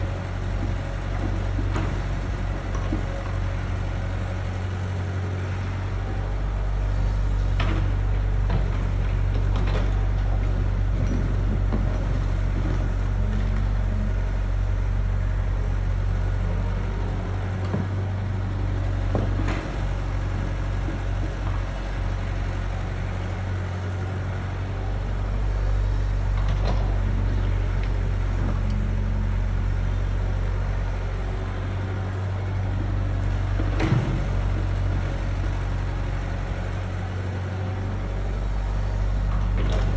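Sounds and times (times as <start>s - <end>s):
excavator engine drone: 0.0s - 39.9s.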